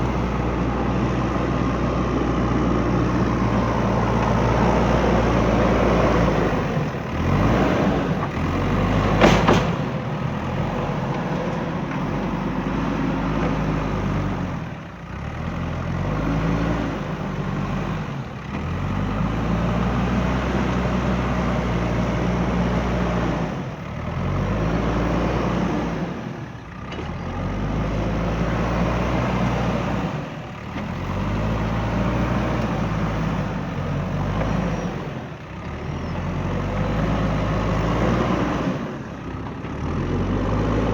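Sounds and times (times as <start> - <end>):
diesel engine working: 0.0 - 40.9.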